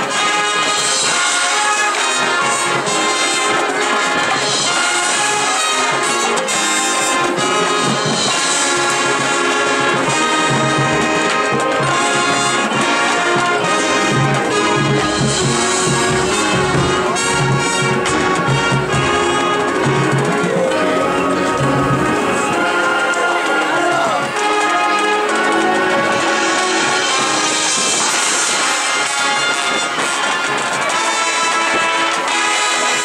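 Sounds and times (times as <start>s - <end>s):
brass chords: 0.0s - 33.0s
marching band playing: 0.0s - 33.0s.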